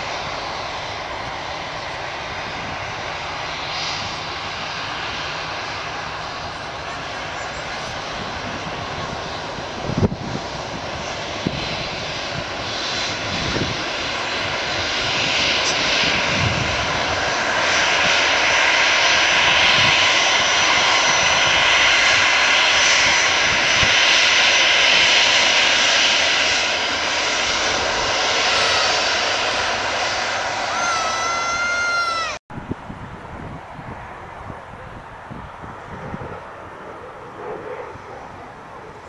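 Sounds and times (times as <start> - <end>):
jet engine roar with whine: 0.0 - 39.0.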